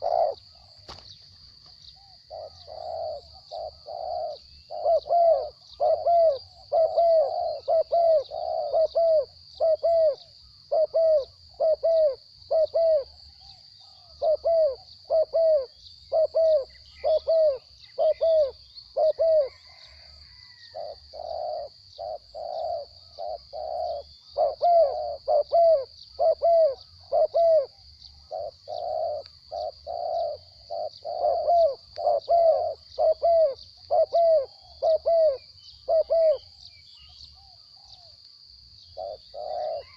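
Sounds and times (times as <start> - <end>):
doves cooing: 0.0 - 1.2, 1.9 - 36.6, 39.0 - 39.9
high insect drone: 0.0 - 39.9.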